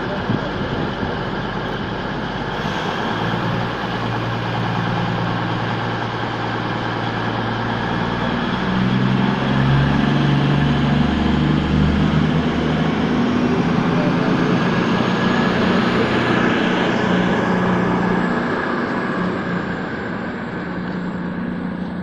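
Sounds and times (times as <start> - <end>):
diesel train engines running: 0.0 - 22.0.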